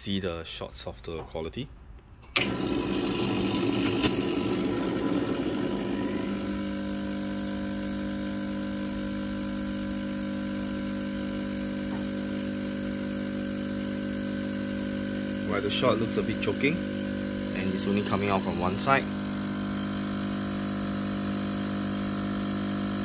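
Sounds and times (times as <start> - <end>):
espresso machine pump humming: 2.4 - 23.0.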